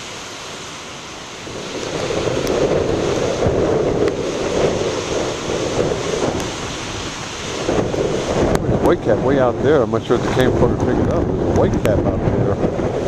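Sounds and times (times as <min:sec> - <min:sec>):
surf breaking over rocks: 0:00.0 - 0:13.0
wind buffeting microphone: 0:00.0 - 0:13.0.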